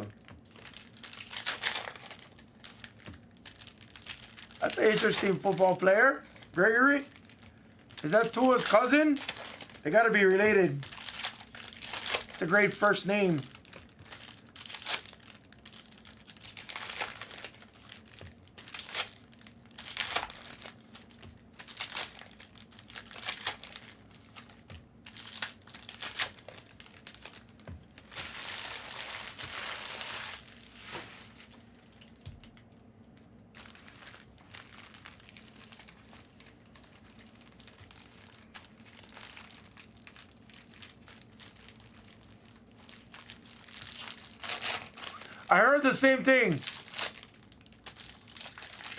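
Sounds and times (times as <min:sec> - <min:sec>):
foil wrappers crinkling and tearing: 0:00.0 - 0:48.9.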